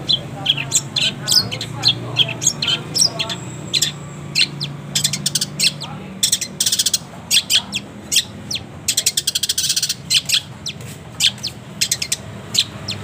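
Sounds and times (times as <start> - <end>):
bird chirping and calling: 0.0 - 13.0.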